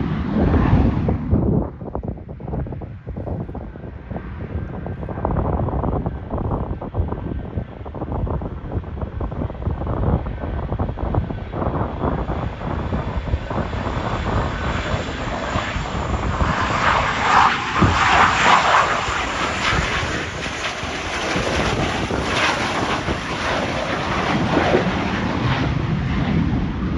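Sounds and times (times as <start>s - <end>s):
jet engines passing low: 0.0s - 26.9s.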